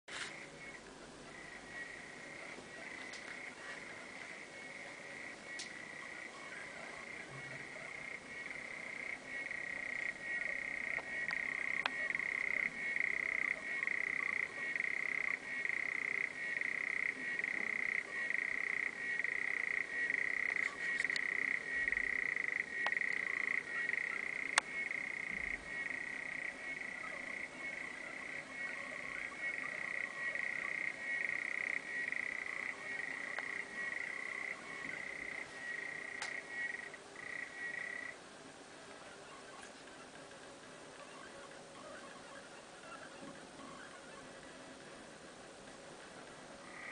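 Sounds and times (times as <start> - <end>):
frog clicking trill: 0.3 - 38.2, 46.6 - 46.9.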